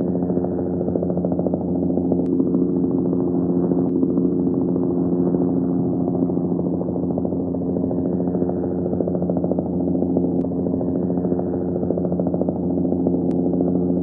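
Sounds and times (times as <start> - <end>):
helicopter engine hum: 0.0 - 14.0
helicopter rotor beating: 0.0 - 14.0.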